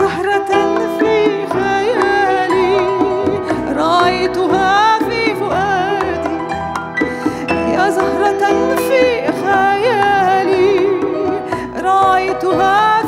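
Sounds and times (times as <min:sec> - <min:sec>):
instrumental accompaniment: 0:00.0 - 0:13.0
soprano singing operatically: 0:00.0 - 0:13.0.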